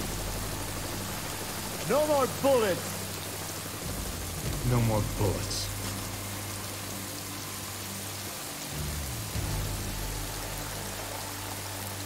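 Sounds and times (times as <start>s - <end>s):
heavy rain hissing on a dock: 0.0s - 12.0s
low music drone: 0.0s - 12.0s.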